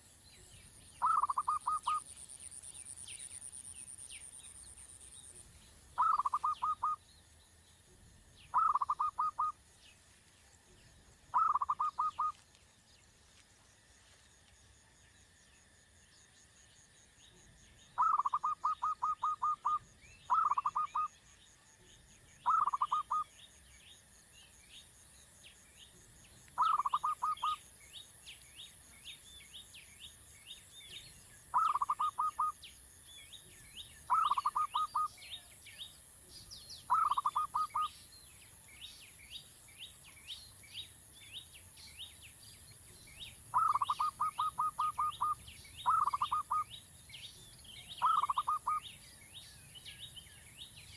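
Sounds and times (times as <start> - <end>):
insects chirping: 0.0 - 50.9.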